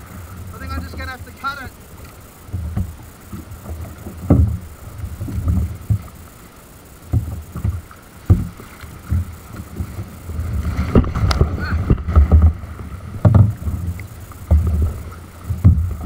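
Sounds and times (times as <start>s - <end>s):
waves slapping against kayak hull: 0.0s - 16.0s.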